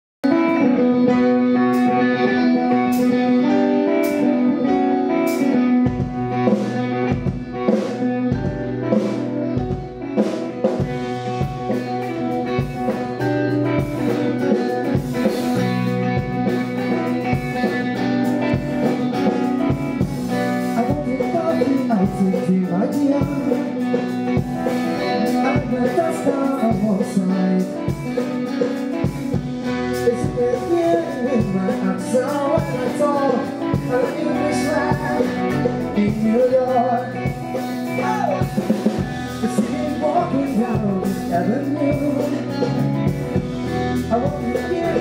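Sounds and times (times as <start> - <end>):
guitar: 0.2 - 45.0
instrumental band music: 0.2 - 45.0.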